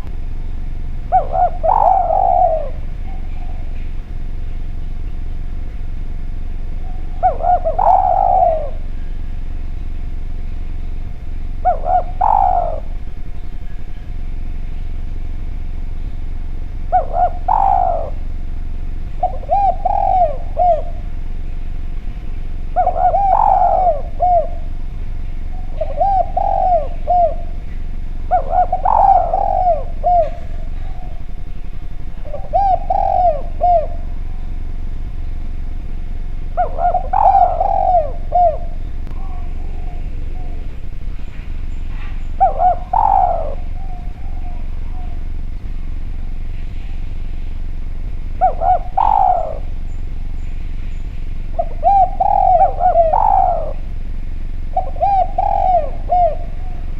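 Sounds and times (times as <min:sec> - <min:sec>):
dove cooing: 0:00.0 - 0:56.9
faint steady hum: 0:00.0 - 0:56.9.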